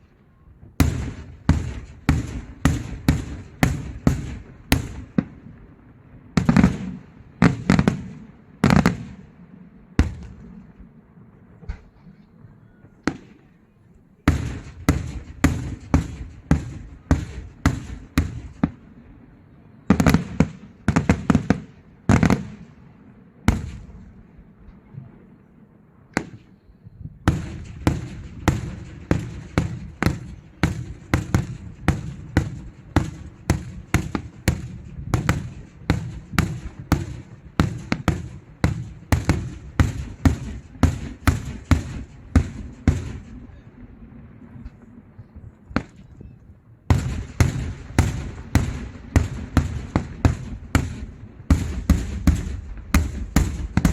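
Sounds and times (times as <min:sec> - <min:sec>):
fireworks bursting: 0:00.0 - 0:09.4, 0:10.0 - 0:13.6, 0:14.2 - 0:22.8, 0:26.1 - 0:26.6, 0:27.2 - 0:45.0, 0:46.9 - 0:53.9.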